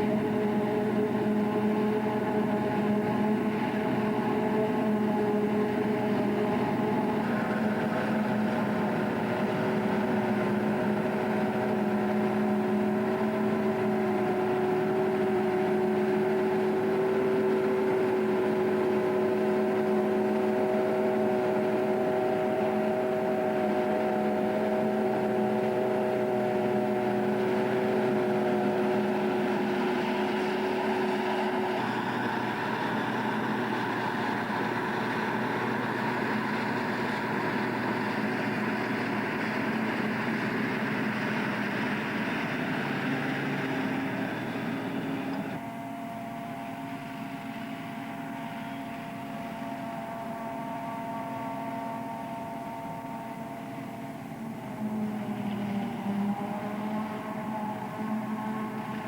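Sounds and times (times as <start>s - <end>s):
forage harvester engine running: 0.0s - 59.0s
high whine: 0.0s - 59.0s.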